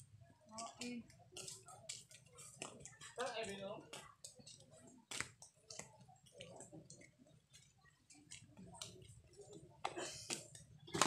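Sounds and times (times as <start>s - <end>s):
faint irregular clicks and taps: 0.5s - 10.8s.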